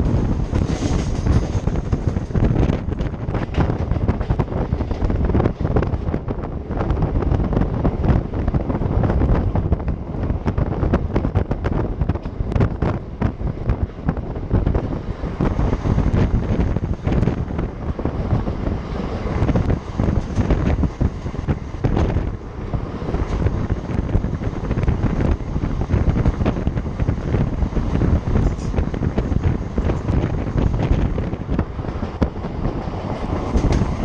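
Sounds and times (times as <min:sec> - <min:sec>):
train wheels clattering on rails: 0:00.0 - 0:34.0
wind buffeting microphone: 0:00.0 - 0:34.0.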